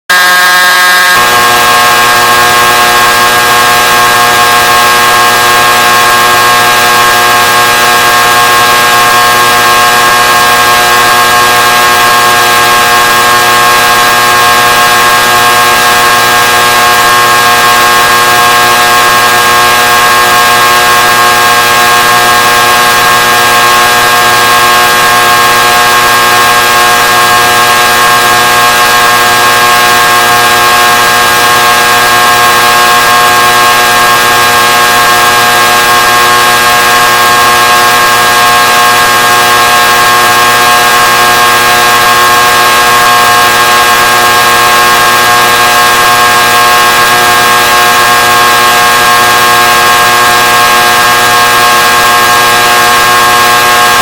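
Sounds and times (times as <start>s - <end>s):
steady electronic vocoder tone: 0.1s - 54.0s.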